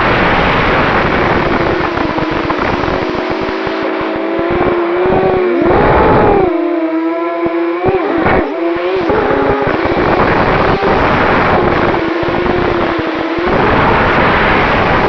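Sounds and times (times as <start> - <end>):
gusty low rumble: 0.0 - 15.0
quadcopter motors whining: 0.0 - 15.0.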